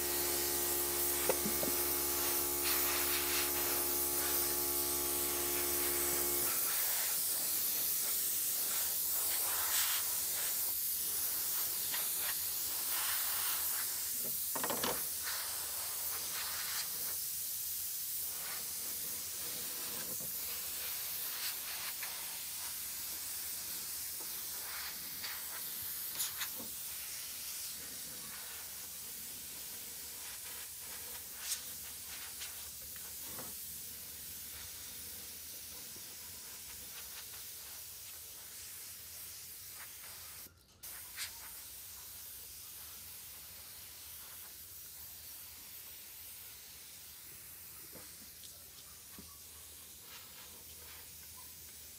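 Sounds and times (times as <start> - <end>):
spray gun hissing: 0.0 - 49.1.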